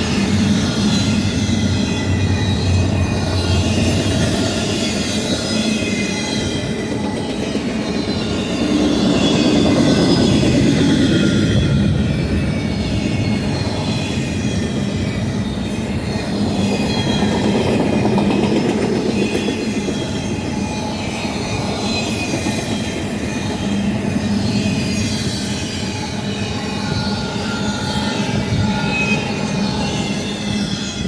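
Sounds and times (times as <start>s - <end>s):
high wheel squeal: 0.0s - 31.0s
steel wheels on rail: 0.0s - 31.0s.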